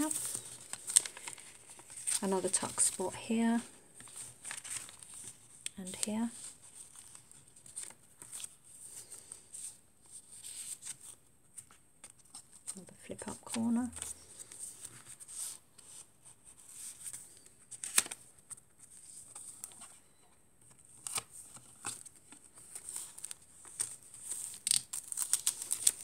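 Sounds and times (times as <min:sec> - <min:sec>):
paper pages rustling: 0:00.0 - 0:03.1, 0:04.0 - 0:20.0, 0:20.6 - 0:26.0.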